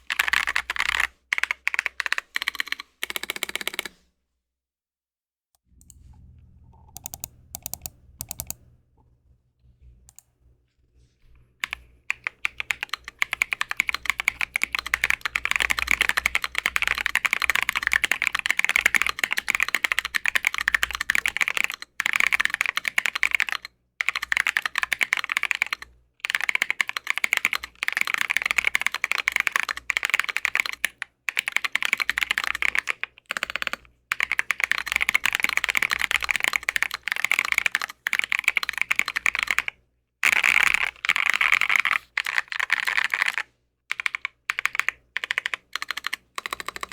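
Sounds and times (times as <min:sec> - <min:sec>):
mechanical keyboard typing: 0:00.0 - 0:04.0, 0:06.7 - 0:08.6, 0:11.6 - 0:46.9.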